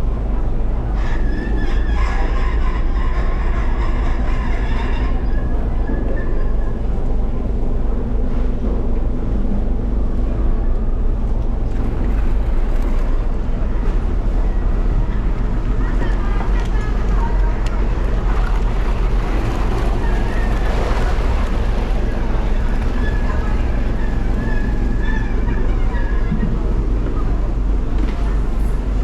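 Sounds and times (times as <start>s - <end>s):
boat engine rumbling: 0.0s - 29.0s.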